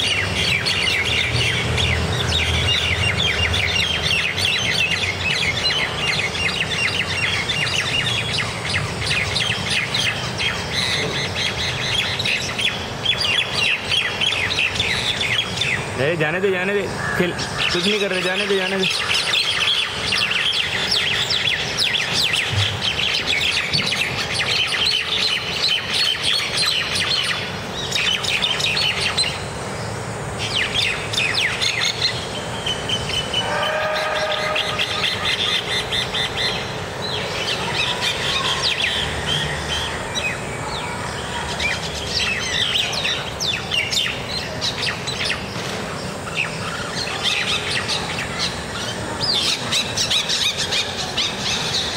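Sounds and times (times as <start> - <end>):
birds chirping and chattering: 0.0 - 51.9.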